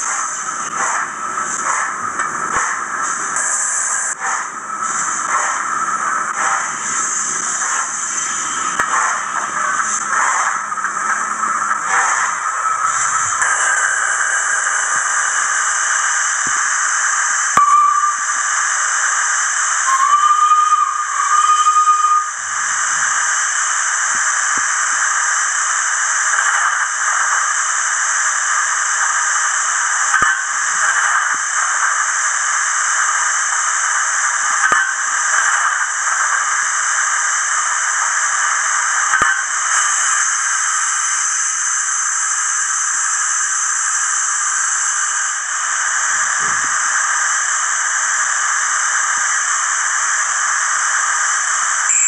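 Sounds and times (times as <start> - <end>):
model locomotive steam hiss: 0.0 - 51.9.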